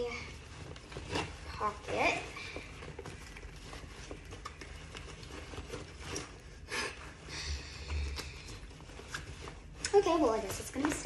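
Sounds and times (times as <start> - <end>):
cloth backpack rustling: 0.0 - 11.0.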